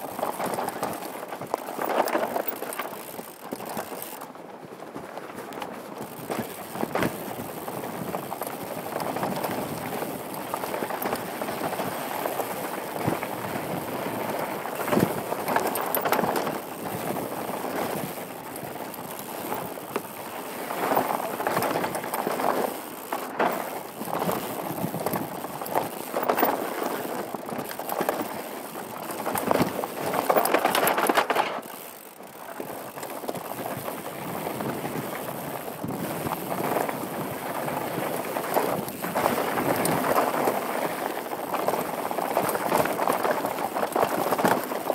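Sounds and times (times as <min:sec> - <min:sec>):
bike tyres rolling over rock: 0:00.0 - 0:44.9.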